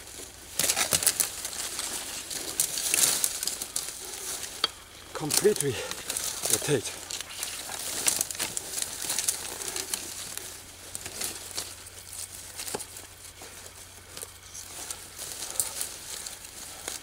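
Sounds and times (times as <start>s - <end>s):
dry leaves crackling and rustling: 0.0s - 17.0s.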